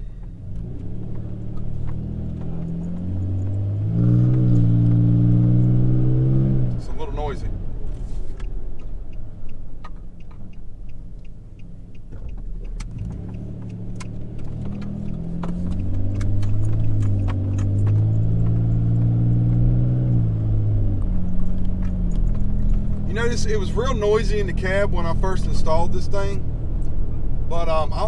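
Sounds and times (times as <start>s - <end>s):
truck engine and exhaust rumble: 0.0s - 28.0s.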